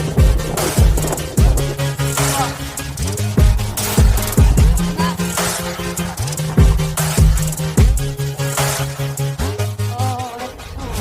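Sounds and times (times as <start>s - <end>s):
electronic drum beat: 0.0s - 9.6s
pulsing bass line: 0.0s - 10.7s.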